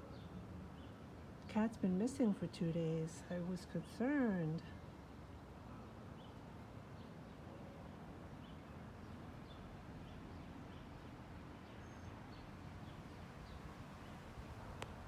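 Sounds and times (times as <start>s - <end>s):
low outdoor background hum: 0.0s - 15.0s.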